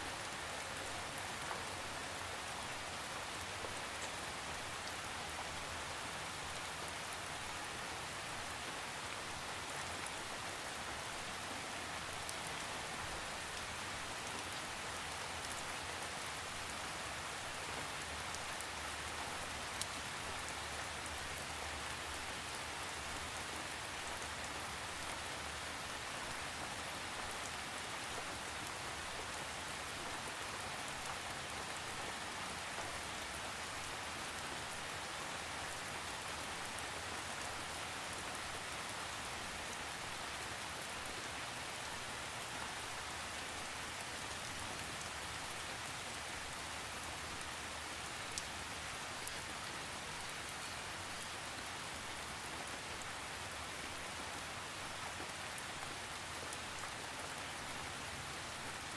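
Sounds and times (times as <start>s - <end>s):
rain falling on a surface: 0.0s - 58.9s.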